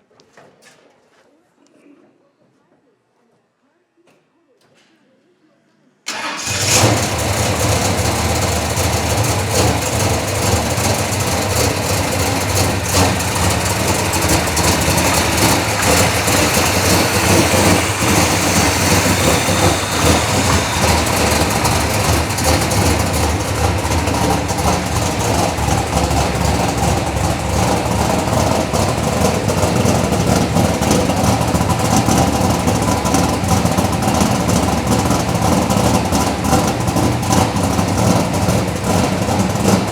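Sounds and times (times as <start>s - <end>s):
loud car engine idling: 6.1s - 39.9s.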